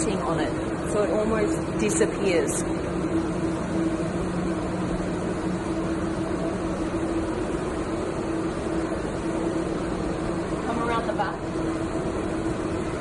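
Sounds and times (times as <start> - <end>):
indoor hall ambience hum: 0.0 - 13.0.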